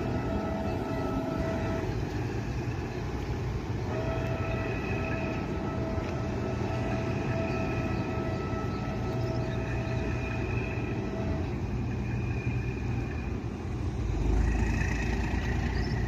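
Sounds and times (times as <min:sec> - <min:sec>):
boat diesel engine rumble: 0:00.0 - 0:16.0
steady high whine: 0:00.0 - 0:16.0.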